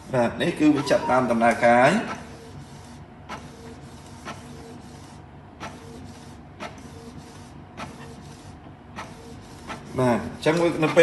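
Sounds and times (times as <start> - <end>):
printer mechanical whir: 0.0 - 11.0.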